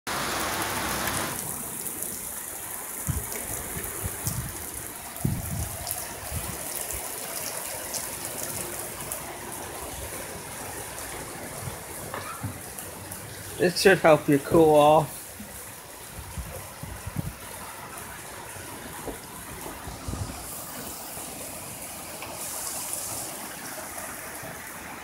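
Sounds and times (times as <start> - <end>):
heavy rain pouring: 0.1 - 25.0.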